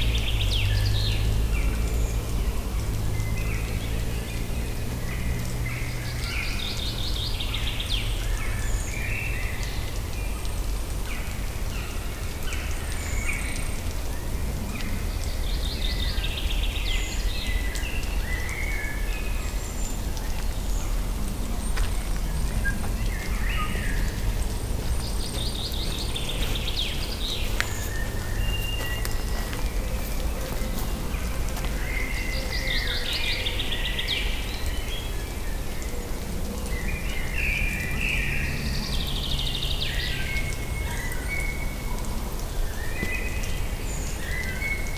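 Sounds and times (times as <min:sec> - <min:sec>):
birds singing: 0:00.0 - 0:44.9.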